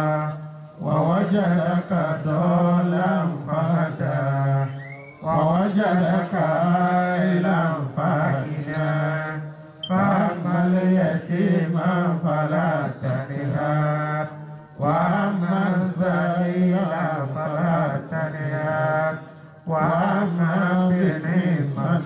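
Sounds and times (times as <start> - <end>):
man chanting into a microphone: 0.0 - 22.0.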